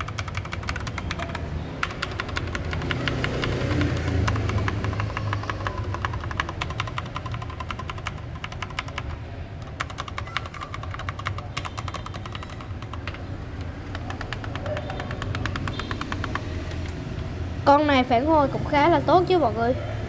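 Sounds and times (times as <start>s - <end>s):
mechanical keyboard clacking: 0.0s - 17.3s.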